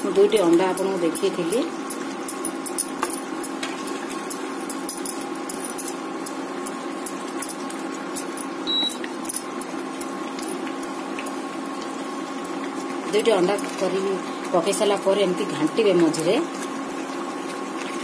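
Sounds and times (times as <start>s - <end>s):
cooktop electrical hum: 0.0s - 18.0s.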